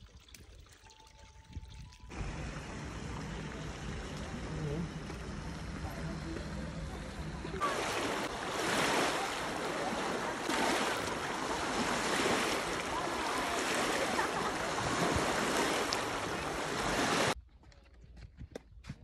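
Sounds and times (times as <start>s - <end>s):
small waves lapping: 2.1s - 17.4s.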